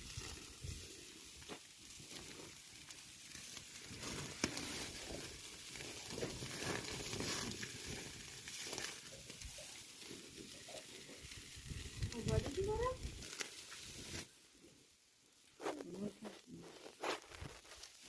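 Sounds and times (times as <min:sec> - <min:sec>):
meat sizzling: 0:00.0 - 0:18.0.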